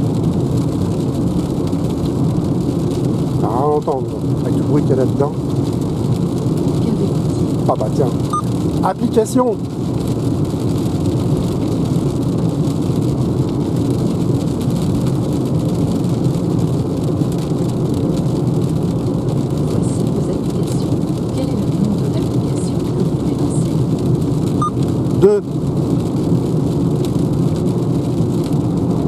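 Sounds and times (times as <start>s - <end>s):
road and tyre noise on wet road: 0.0s - 29.0s.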